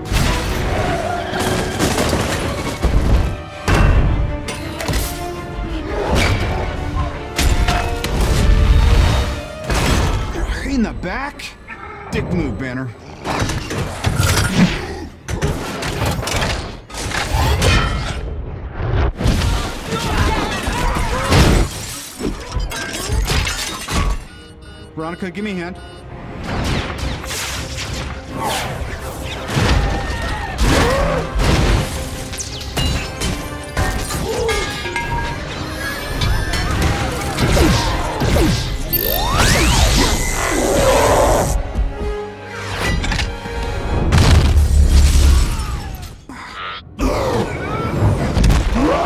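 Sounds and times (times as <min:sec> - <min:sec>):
orchestral film score: 0:00.0 - 0:49.0.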